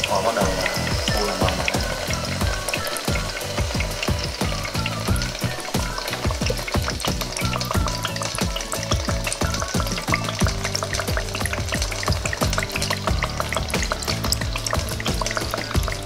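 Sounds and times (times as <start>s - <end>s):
dry ice bubbling in water: 0.0s - 16.0s.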